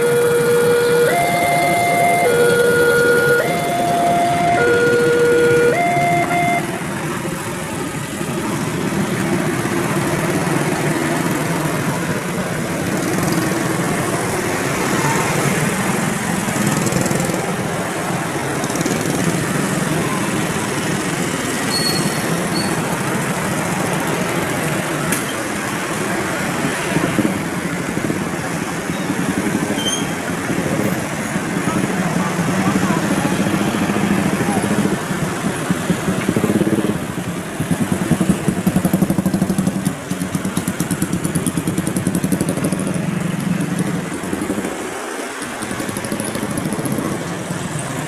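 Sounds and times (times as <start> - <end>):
train wheels rumbling on rails: 6.7 - 48.0.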